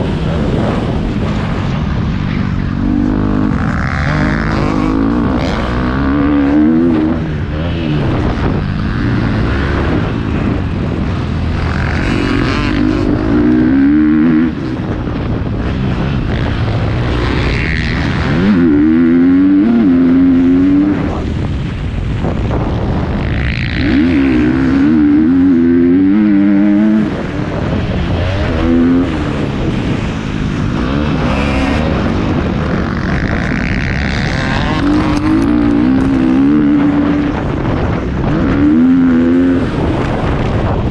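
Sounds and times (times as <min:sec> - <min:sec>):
motorbike engine revving: 0:00.0 - 0:40.9
wind rush: 0:00.0 - 0:40.9.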